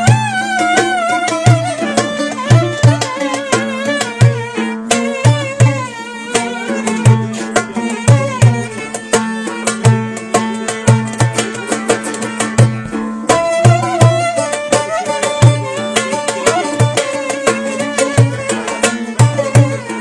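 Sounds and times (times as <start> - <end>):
goblet drum played by hand: 0.0 - 20.0
plucked lute melody: 0.0 - 20.0.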